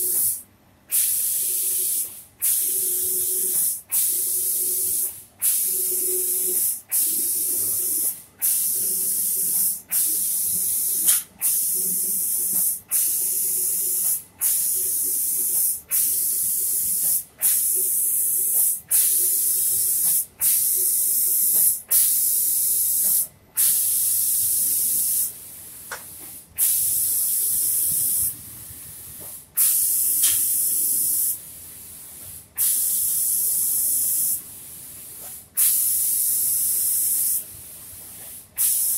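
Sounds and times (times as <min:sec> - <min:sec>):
spray gun hissing: 0:00.0 - 0:25.4, 0:26.6 - 0:37.5, 0:38.6 - 0:38.9.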